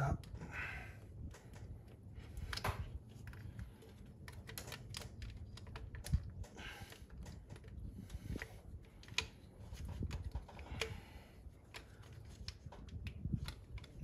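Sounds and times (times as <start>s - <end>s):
hands handling plastic plug: 1.3s - 14.0s.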